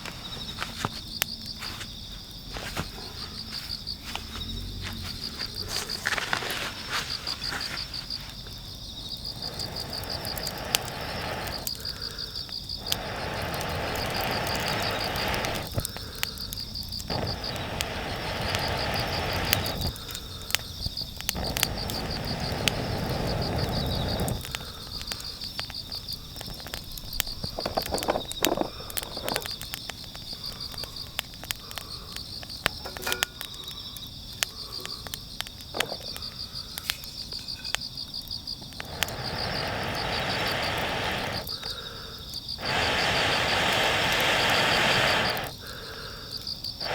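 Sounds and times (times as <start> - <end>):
crickets chirping: 0.0 - 46.9
sharp cracks and pops: 4.2 - 46.9.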